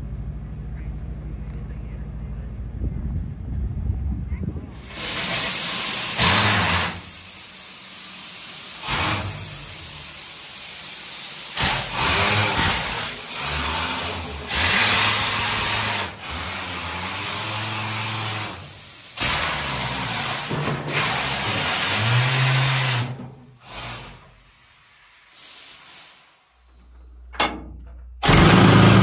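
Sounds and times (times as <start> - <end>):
locomotive mechanical hum: 0.0 - 25.3, 26.2 - 29.0
loud air hissing bursts: 4.7 - 27.3, 28.2 - 29.0.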